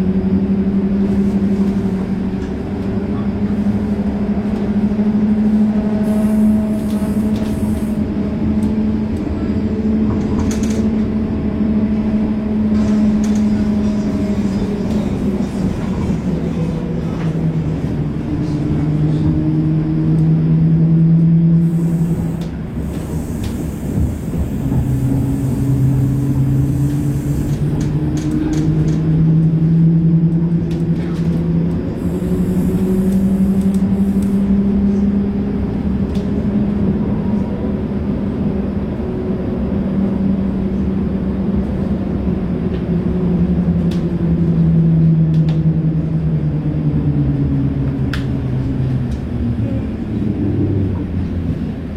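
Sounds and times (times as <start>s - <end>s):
low rumble of rails: 0.0s - 51.9s
tram electric drive humming: 0.0s - 51.9s.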